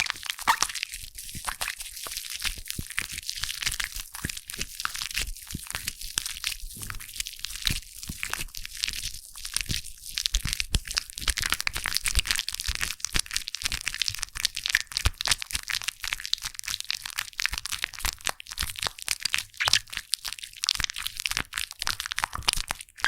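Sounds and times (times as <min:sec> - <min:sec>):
foam crackling and popping: 0:00.0 - 0:23.0.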